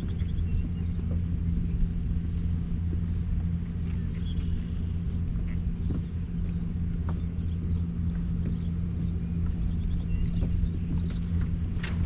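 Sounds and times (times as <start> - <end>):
constant hum: 0.0 - 12.0
steady low rumble: 0.0 - 12.0.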